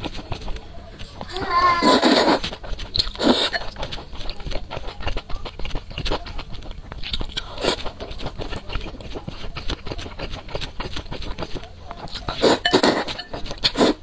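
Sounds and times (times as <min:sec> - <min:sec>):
chewing noodles with mouth clicks: 0:00.0 - 0:14.0.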